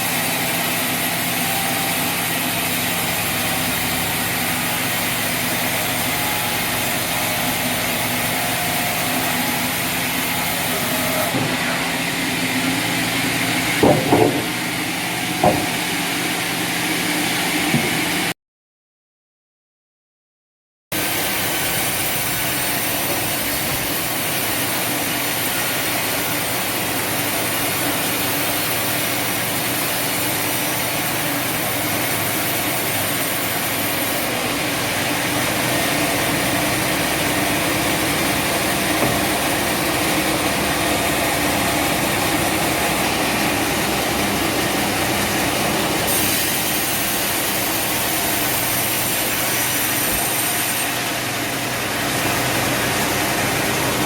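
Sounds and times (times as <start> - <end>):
sawmill machinery running: 0.0 - 18.4, 21.0 - 54.0.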